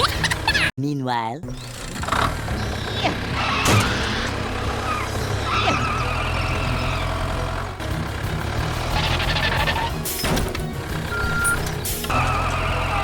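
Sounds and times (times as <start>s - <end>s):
tractor engine rumbling: 1.4s - 13.0s.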